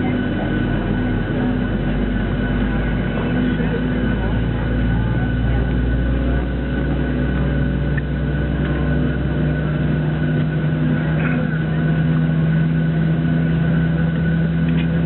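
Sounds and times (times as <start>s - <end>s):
aircraft cabin drone: 0.0s - 15.0s
high whine: 0.0s - 15.0s.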